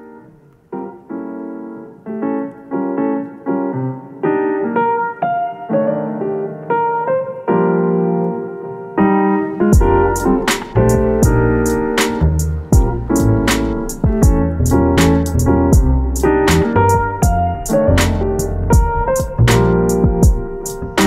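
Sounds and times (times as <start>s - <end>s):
keyboard playing chords: 0.0s - 21.0s.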